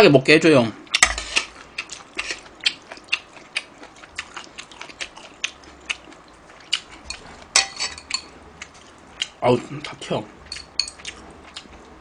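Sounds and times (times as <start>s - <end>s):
wet chewing of noodles: 0.8s - 9.4s, 10.4s - 12.0s.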